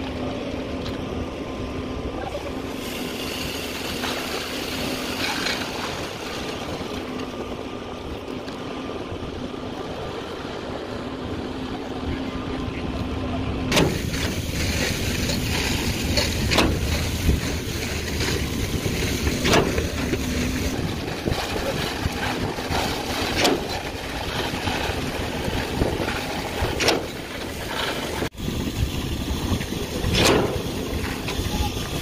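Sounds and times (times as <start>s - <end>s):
concrete pump engine drone: 0.0s - 32.0s.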